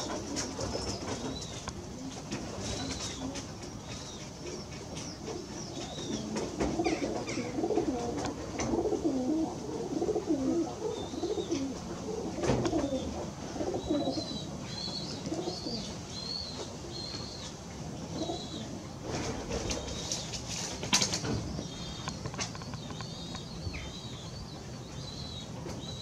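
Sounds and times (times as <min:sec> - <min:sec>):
pigeons cooing: 0:00.0 - 0:22.6.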